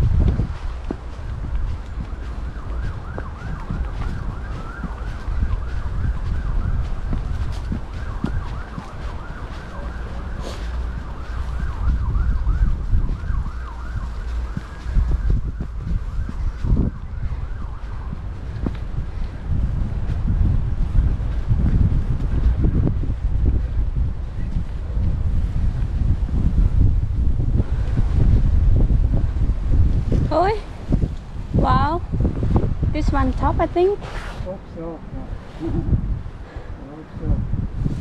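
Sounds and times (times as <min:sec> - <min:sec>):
wind rumbling on microphone: 0:00.0 - 0:38.0.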